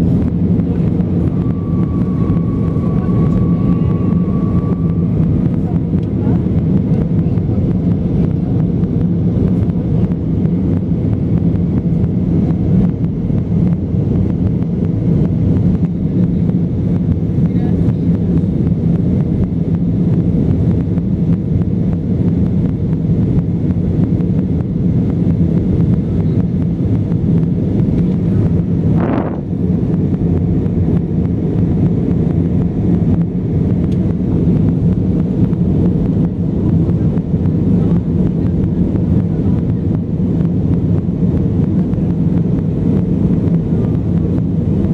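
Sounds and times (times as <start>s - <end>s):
airplane cabin engine roar: 0.0s - 44.9s.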